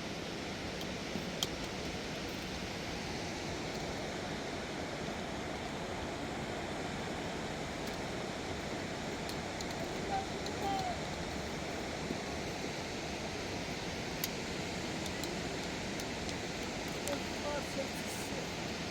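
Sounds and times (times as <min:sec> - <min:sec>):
river rushing: 0:00.1 - 0:18.9.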